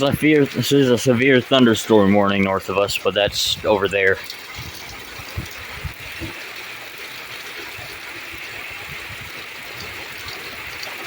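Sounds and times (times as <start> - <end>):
outdoor ambient hiss: 0.0 - 11.0.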